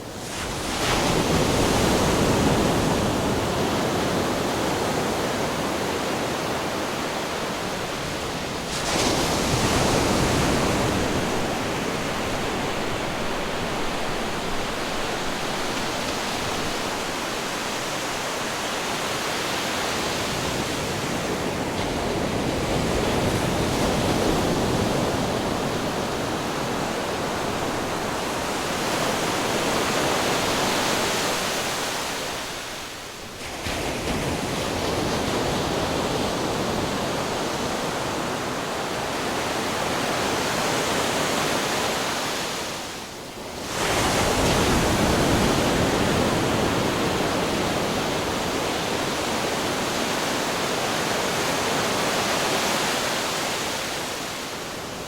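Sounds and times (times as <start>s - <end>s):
ocean waves crashing on rocks: 0.2s - 55.0s.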